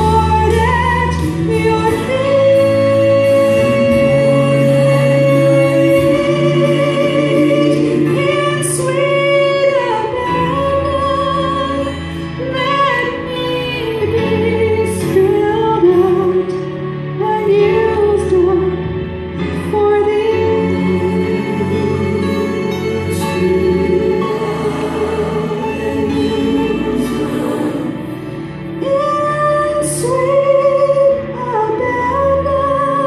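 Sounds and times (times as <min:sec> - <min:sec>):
woman singing into a microphone: 0:00.0 - 0:23.6, 0:28.8 - 0:33.0
instrumental accompaniment: 0:00.0 - 0:33.0.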